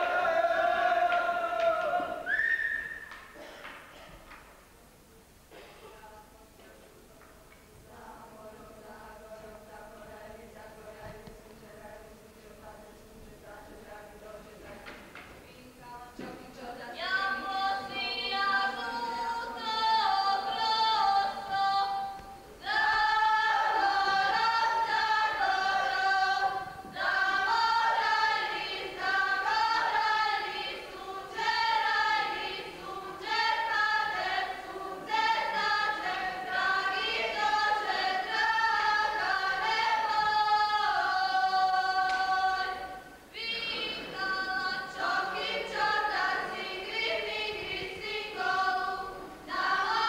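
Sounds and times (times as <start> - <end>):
women singing a cappella: 0.0 - 3.6, 7.8 - 50.0.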